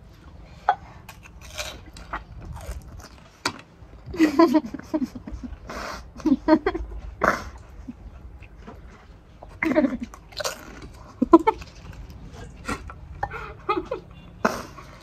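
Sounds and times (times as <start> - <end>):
chewing and crunching crisp food: 0.0 - 5.7, 6.8 - 13.6.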